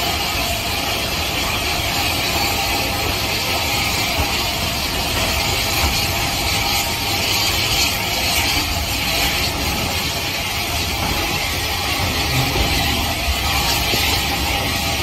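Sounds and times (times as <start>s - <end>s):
passing train rushing noise: 0.0s - 15.0s.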